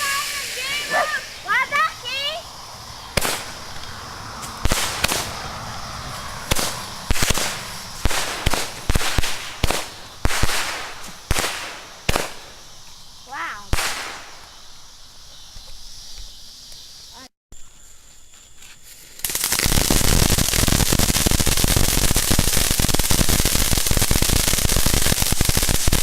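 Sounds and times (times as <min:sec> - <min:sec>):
fireworks bangs: 0:00.0 - 0:15.0, 0:18.9 - 0:26.0
firework hiss: 0:00.0 - 0:17.3, 0:18.8 - 0:26.0.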